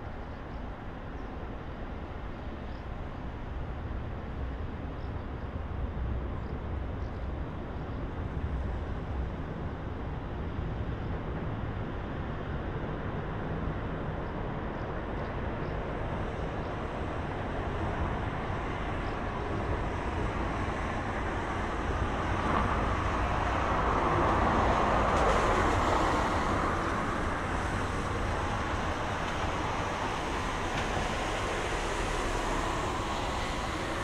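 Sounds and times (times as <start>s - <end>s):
city traffic hum: 0.0s - 34.0s.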